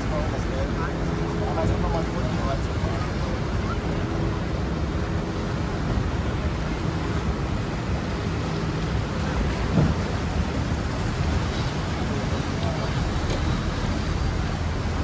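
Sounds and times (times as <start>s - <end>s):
boat engine hum: 0.0s - 15.0s
roar of waterfall and river: 0.0s - 15.0s.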